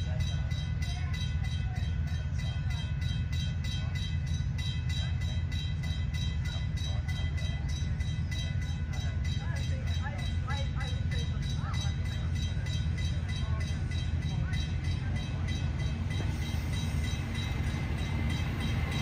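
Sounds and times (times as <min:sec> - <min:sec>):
diesel railcar engine rumbling: 0:00.0 - 0:19.0.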